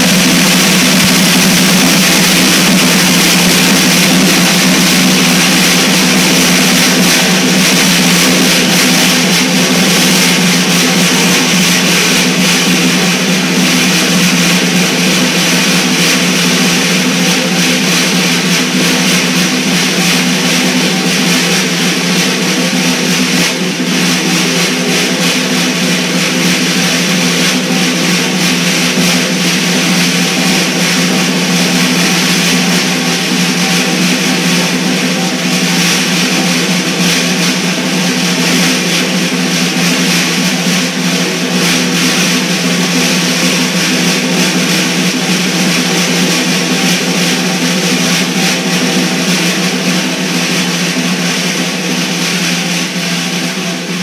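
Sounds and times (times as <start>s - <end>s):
snare drum roll: 0.0s - 54.0s.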